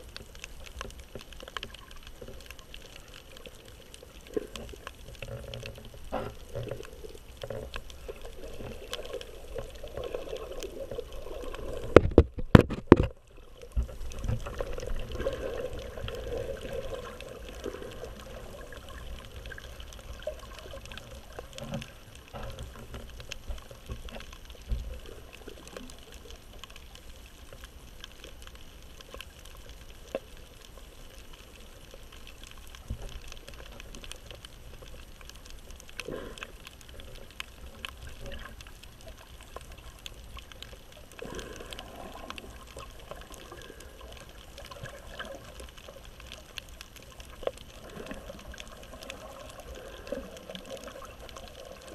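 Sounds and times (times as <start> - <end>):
muffled underwater rushing: 0.0 - 28.0, 30.9 - 51.9
faint underwater clicks: 0.0 - 51.9.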